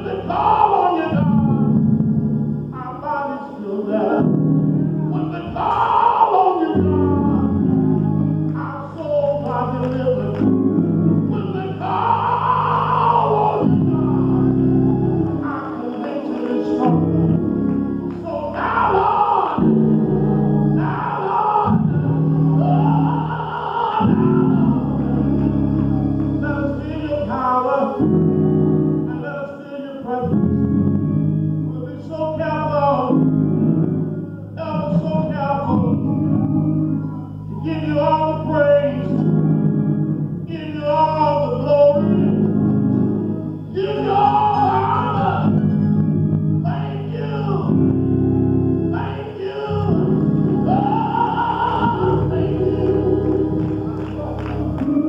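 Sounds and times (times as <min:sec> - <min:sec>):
gospel-style singing: 0:00.0 - 0:55.0
sustained keyboard chords: 0:00.0 - 0:55.0.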